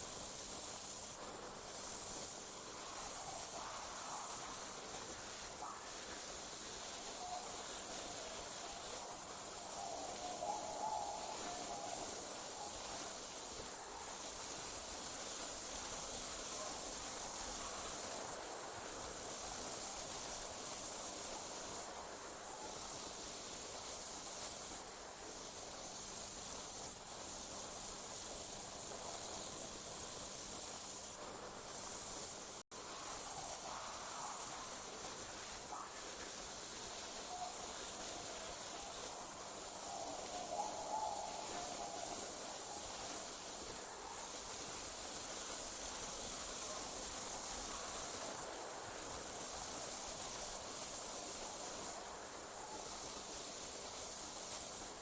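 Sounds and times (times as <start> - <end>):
crickets trilling: 0.1 - 18.4, 22.6 - 55.0.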